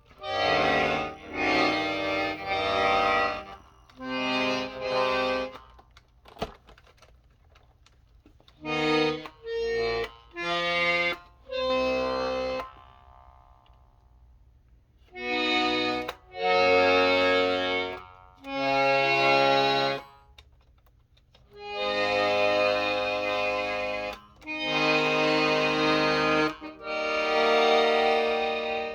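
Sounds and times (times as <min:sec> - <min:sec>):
accordion bass notes: 0:00.0 - 0:05.9, 0:08.6 - 0:14.0, 0:15.1 - 0:20.3, 0:21.6 - 0:28.9.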